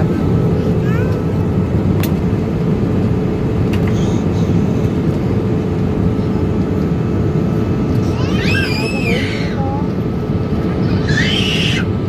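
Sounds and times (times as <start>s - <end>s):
constant low hum: 0.0s - 12.0s
jet engines roaring in cabin: 0.0s - 12.0s.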